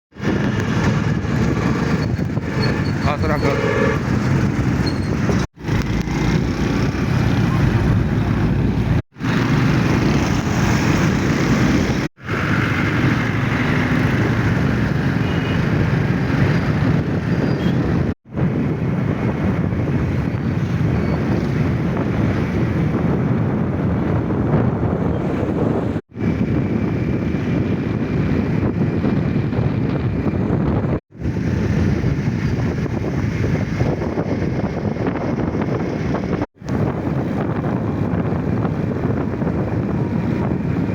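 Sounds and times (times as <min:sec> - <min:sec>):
road and vehicle noise: 0:00.1 - 0:40.9
wind on microphone: 0:00.1 - 0:40.9.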